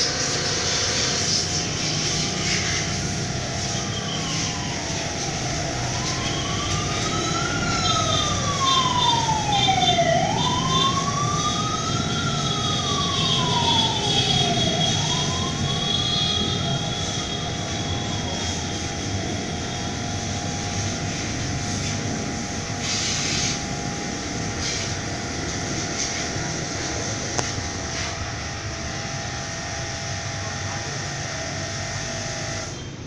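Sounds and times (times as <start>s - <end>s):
water jet hissing: 0.0s - 28.5s
pressure washer motor humming: 0.0s - 32.8s.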